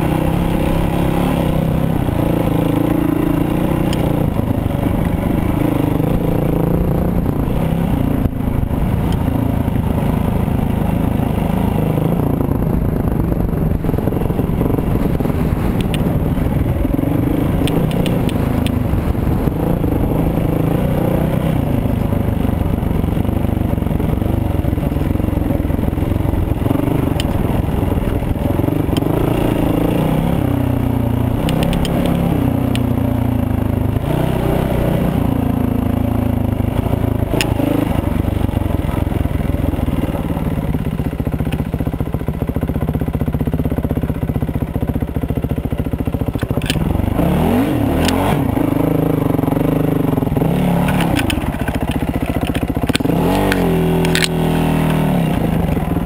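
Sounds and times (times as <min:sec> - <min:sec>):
dirt bike engine revving: 0:00.0 - 0:40.4, 0:46.3 - 0:56.0.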